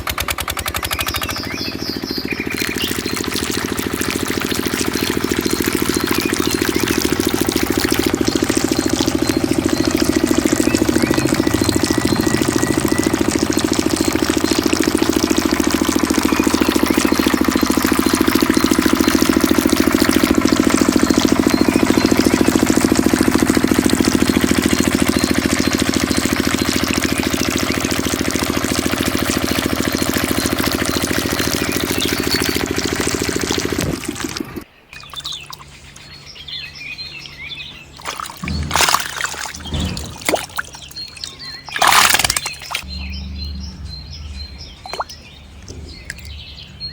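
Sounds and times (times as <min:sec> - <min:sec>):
diesel engine rattling: 0:00.0 - 0:34.7, 0:36.0 - 0:46.9
water pouring: 0:01.9 - 0:35.8, 0:38.0 - 0:43.2, 0:44.6 - 0:46.9.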